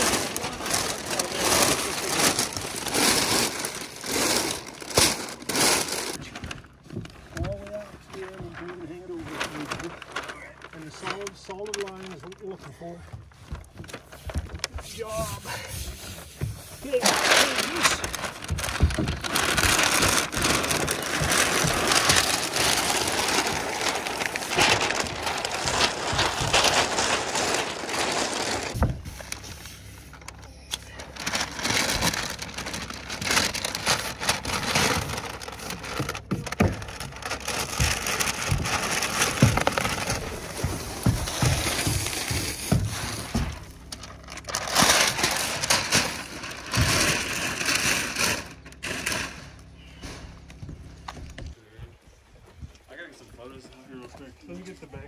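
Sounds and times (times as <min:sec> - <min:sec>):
release paper crinkling and rustling: 0:00.0 - 0:55.0.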